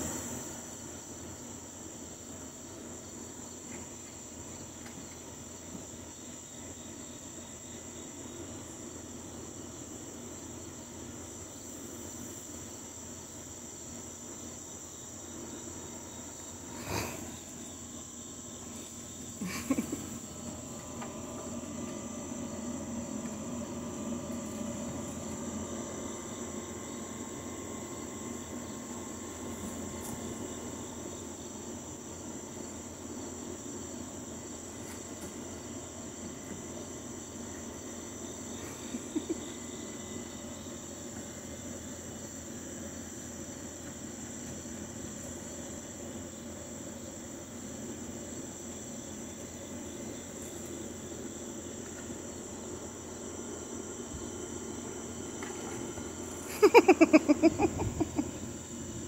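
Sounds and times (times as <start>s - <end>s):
night insects chirring: 0.0s - 59.0s.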